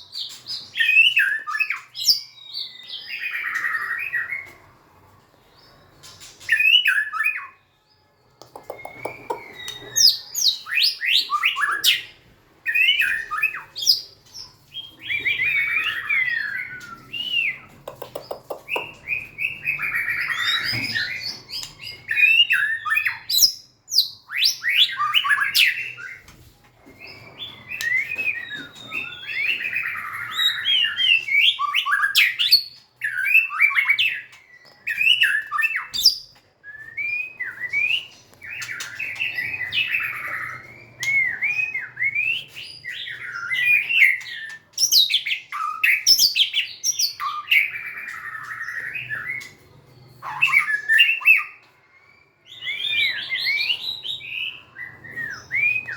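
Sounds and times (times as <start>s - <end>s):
bird singing whistled song: 0.0s - 4.4s, 6.1s - 7.7s, 8.4s - 26.3s, 26.9s - 55.9s.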